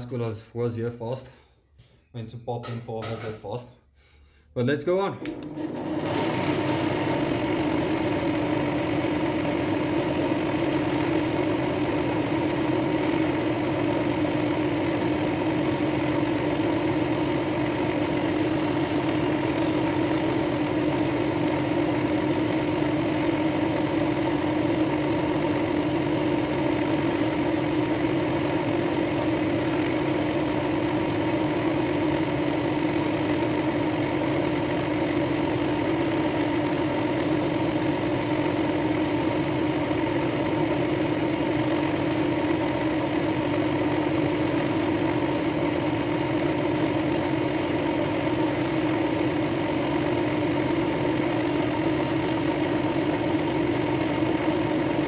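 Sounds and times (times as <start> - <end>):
drill press motor humming: 5.2 - 55.0.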